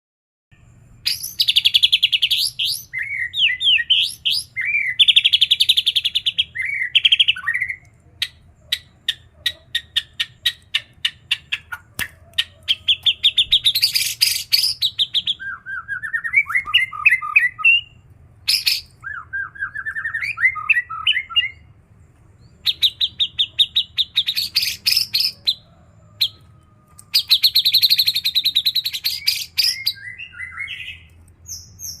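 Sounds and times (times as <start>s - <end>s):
songbird singing: 0.5s - 32.0s.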